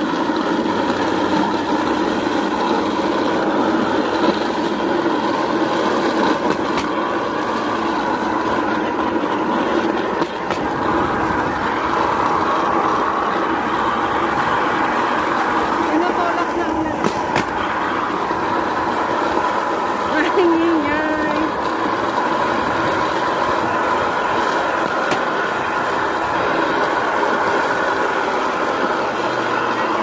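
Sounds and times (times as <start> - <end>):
rail trolley wheels rumbling: 0.0 - 30.0.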